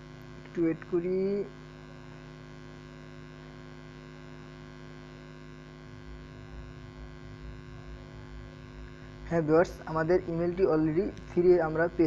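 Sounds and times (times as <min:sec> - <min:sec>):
electrical hum with tones: 0:00.0 - 0:12.0.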